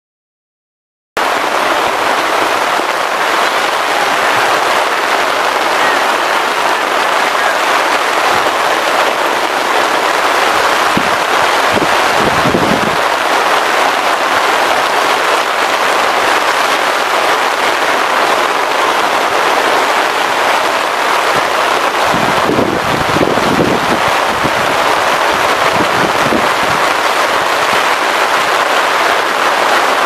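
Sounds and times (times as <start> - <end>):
heavy rain pouring: 1.2 - 30.0.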